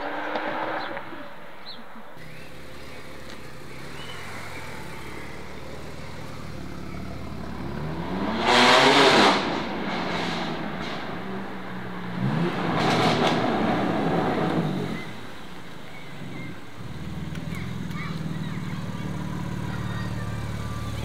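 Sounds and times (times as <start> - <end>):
car engine revving: 2.2 - 21.0.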